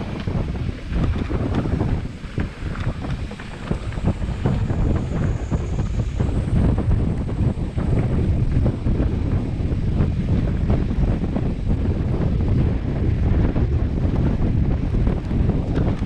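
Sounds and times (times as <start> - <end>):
bike knocks and rattles: 0.0 - 16.0
wind buffeting microphone: 0.0 - 16.0.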